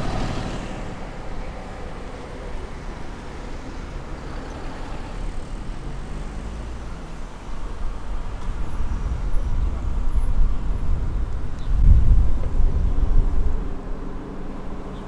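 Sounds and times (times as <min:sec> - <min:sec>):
car engines and tyres rumbling: 0:00.0 - 0:15.0.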